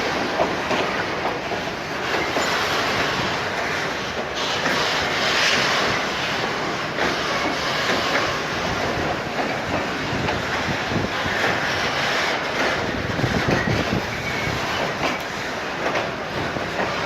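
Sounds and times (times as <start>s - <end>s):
railway wagons rumbling: 0.0s - 17.0s.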